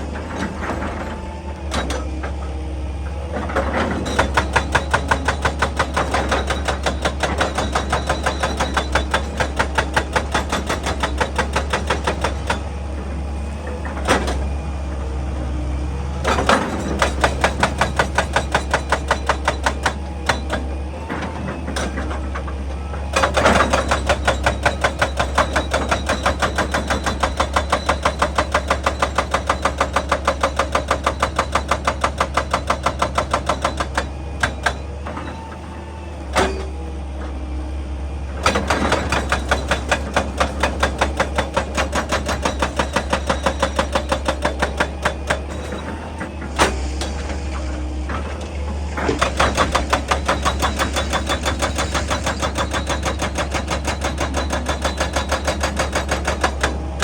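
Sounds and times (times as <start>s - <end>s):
hydraulic breaker hammering rock: 0.0s - 2.5s, 3.3s - 15.1s, 16.2s - 35.6s, 36.2s - 36.8s, 38.4s - 57.0s
excavator engine hum: 0.0s - 57.0s.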